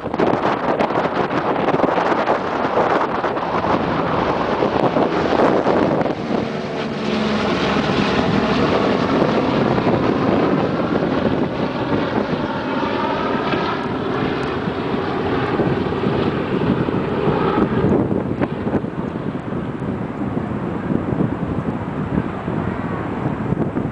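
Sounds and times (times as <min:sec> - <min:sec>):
propeller plane engines droning: 0:00.0 - 0:23.9.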